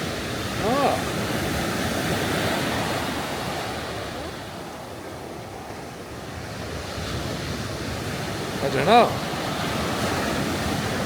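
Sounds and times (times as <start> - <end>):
sea waves breaking on beach: 0.0 - 11.0.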